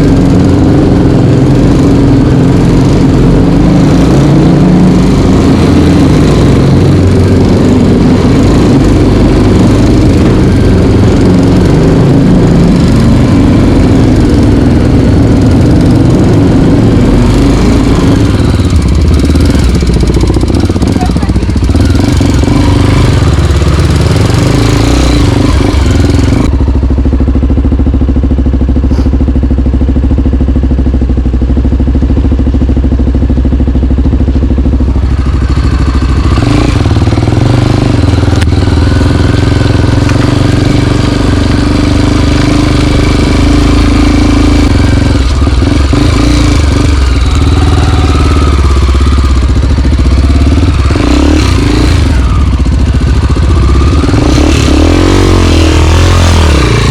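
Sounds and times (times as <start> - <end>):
dirt bike engine running: 0.0 - 56.9.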